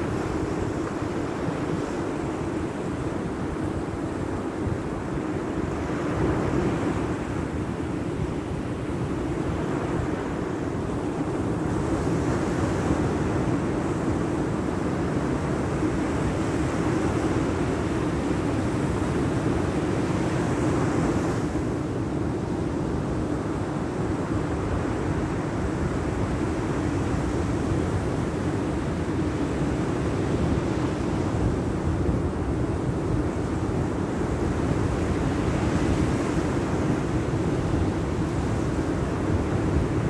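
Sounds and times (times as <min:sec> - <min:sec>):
sea surf breaking on beach: 0:00.0 - 0:40.0
wind on microphone: 0:00.0 - 0:40.0.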